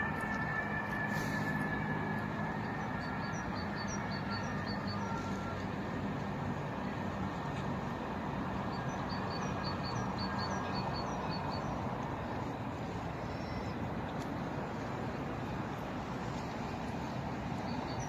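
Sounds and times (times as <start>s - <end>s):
low hum of distant traffic: 0.0s - 18.0s.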